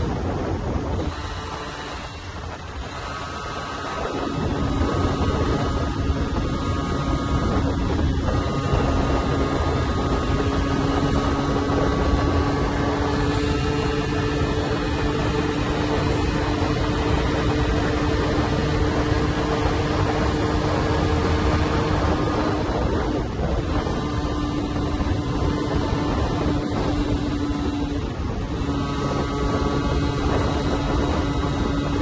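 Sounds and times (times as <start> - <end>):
motorcycle engine running: 0.0 - 32.0
steady rush of noise: 0.0 - 32.0.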